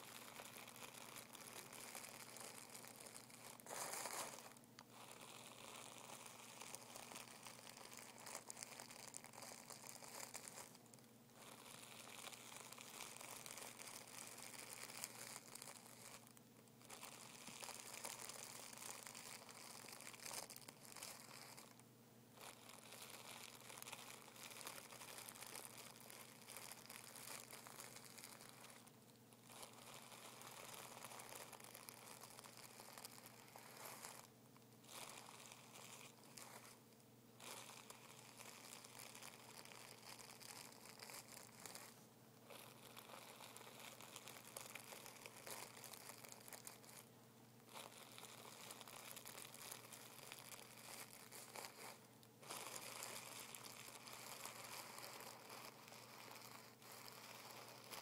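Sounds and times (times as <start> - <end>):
tissue paper crinkling: 0.0 - 21.8, 22.4 - 58.0.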